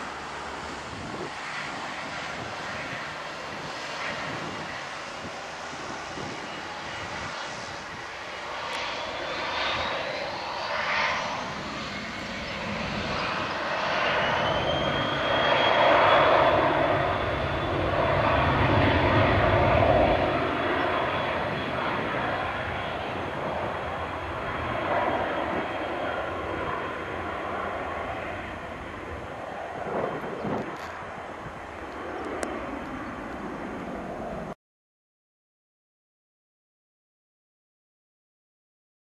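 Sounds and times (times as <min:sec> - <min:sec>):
jet engines whining and rumbling: 0:00.0 - 0:34.6.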